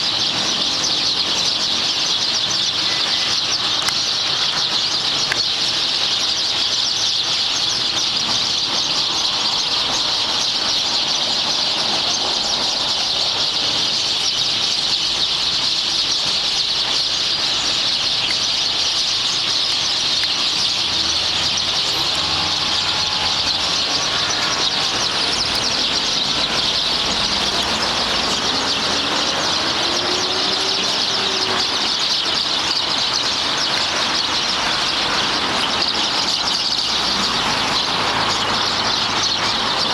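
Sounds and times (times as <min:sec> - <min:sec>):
faint traffic: 0:00.0 - 0:39.9
flock of birds chirping: 0:00.0 - 0:39.9.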